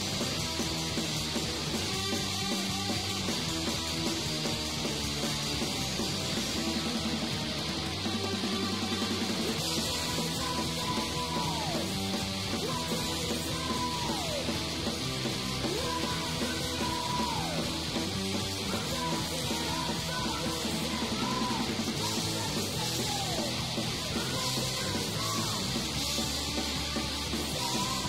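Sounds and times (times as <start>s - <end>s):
hardcore punk band playing: 0.0s - 28.0s.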